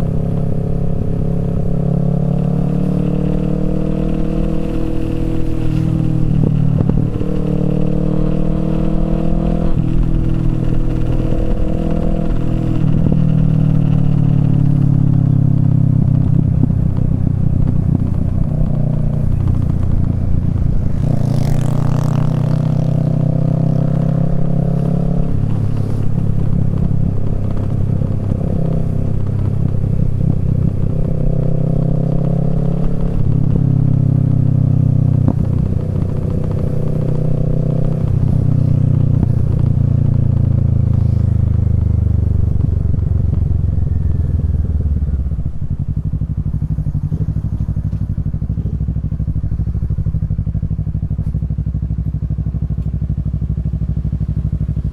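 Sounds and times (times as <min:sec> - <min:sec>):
motorcycle engine riding and idling: 0:00.0 - 0:54.9.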